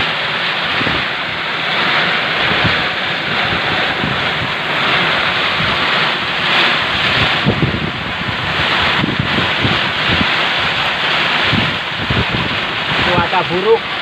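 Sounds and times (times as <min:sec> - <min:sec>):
heavy rain hissing: 0:00.0 - 0:14.0
wind buffeting microphone: 0:00.0 - 0:14.0.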